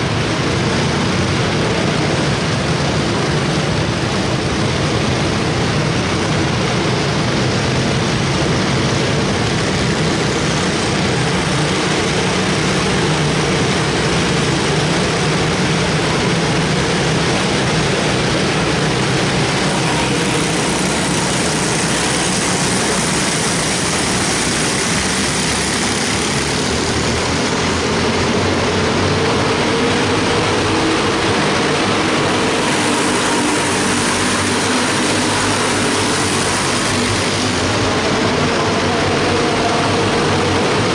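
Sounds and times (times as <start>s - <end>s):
race car engines buzzing: 0.0s - 40.9s.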